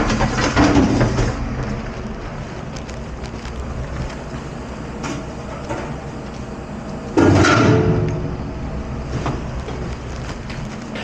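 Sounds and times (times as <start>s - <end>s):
dish area machine noise: 0.0s - 11.0s.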